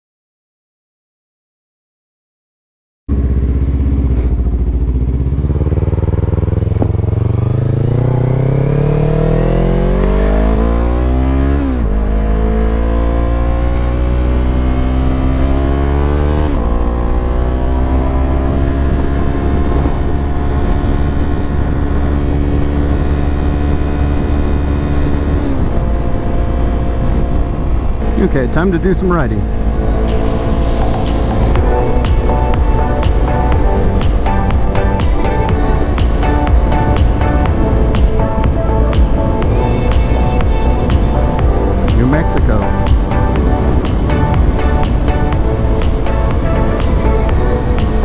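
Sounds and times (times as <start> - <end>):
motorcycle engine accelerating: 3.1 - 48.0.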